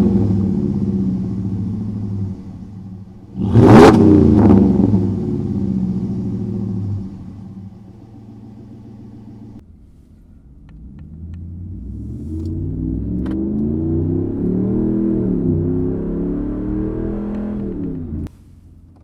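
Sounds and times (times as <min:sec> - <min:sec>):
truck engine exhaust accelerating: 0:00.0 - 0:19.0.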